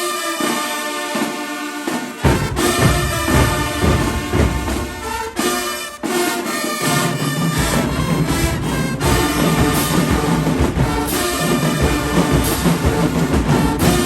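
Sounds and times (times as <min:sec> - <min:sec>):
marching band with brass: 0:00.0 - 0:14.0.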